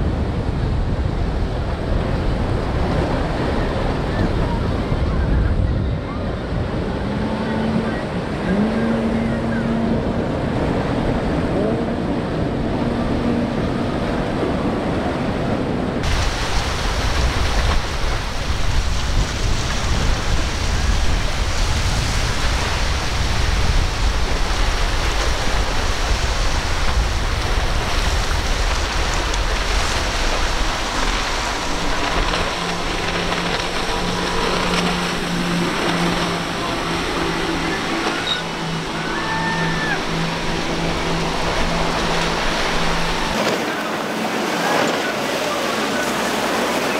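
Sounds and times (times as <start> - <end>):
outboard engine drone: 0.0 - 46.9
rushing water and spray: 0.0 - 46.9
wind rumble: 0.0 - 46.9.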